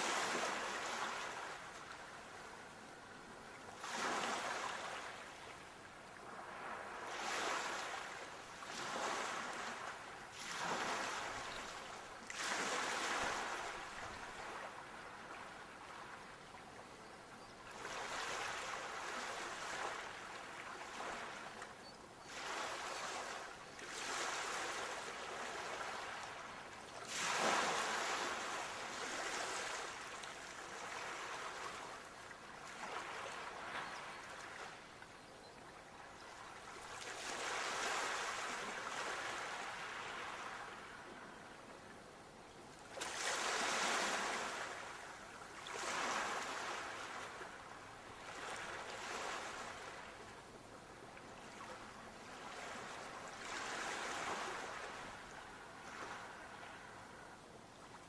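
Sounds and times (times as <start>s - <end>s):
sea waves breaking on shore: 0.0s - 16.8s, 17.7s - 21.6s, 22.3s - 35.0s, 35.8s - 41.1s, 42.8s - 58.0s.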